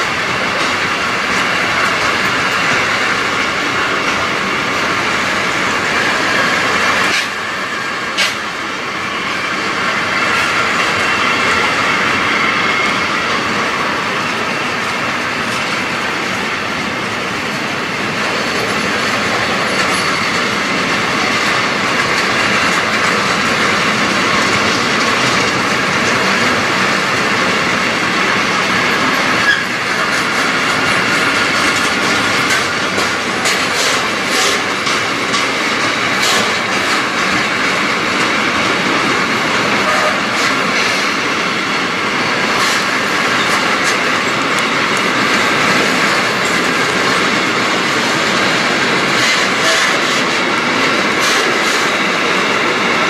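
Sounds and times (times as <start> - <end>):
train wheels rolling on rails: 0.0 - 53.0
wheels clacking over rail joints: 0.0 - 53.0.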